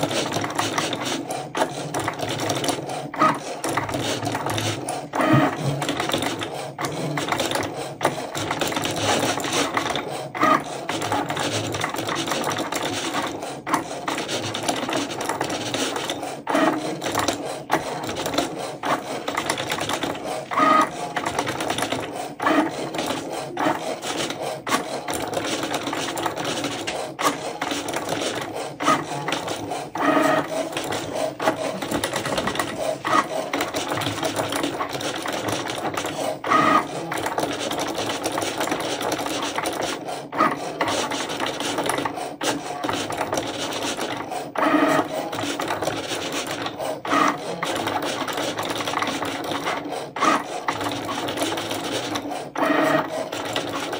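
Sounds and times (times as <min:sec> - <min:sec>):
cutting machine motors whirring: 0:00.0 - 0:53.9.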